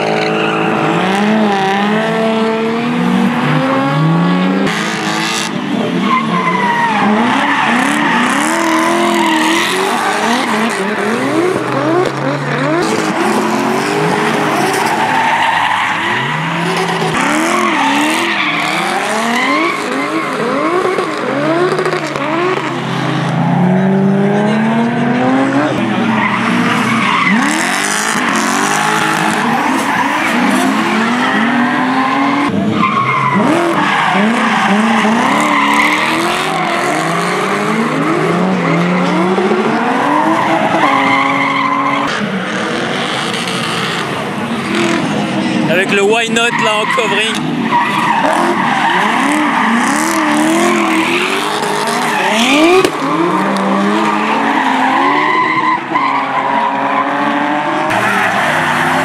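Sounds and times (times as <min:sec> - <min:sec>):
car engines revving: 0:00.0 - 0:59.0
tyres squealing and skidding: 0:00.0 - 0:59.0.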